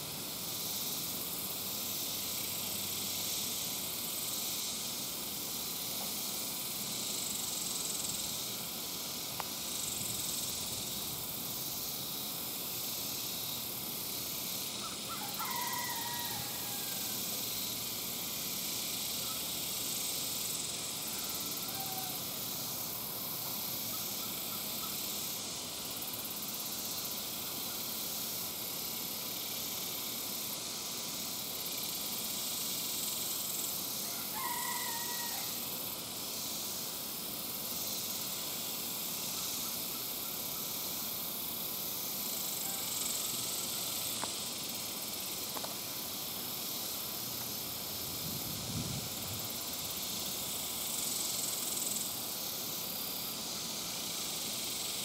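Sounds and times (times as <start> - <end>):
insect chorus hissing: 0.0 - 55.0.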